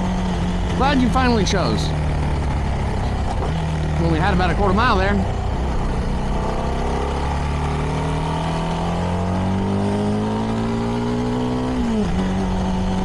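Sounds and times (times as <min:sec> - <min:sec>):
motorcycle engine revving: 0:00.0 - 0:13.0
road and wind rumble: 0:00.0 - 0:13.0.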